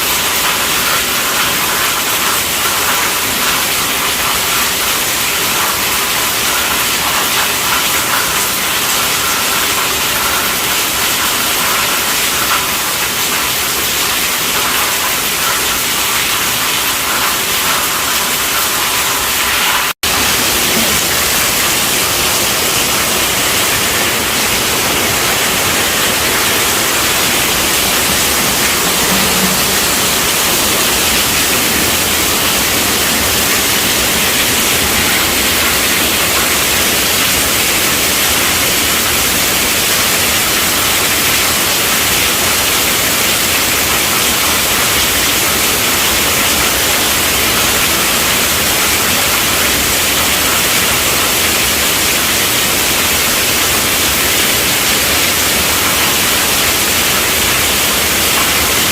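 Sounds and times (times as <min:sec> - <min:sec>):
heavy rain on a tent roof: 0:00.0 - 0:58.9.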